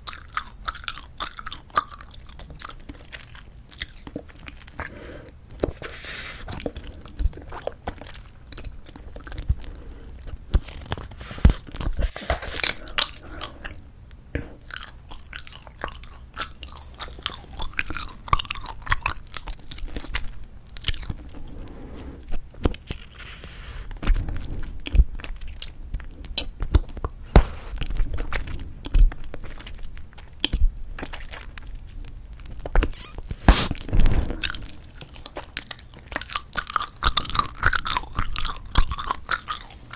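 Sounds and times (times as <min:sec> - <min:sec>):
bubblegum chewing with clicks: 0:00.0 - 0:04.9, 0:06.5 - 0:21.4, 0:24.0 - 0:39.9.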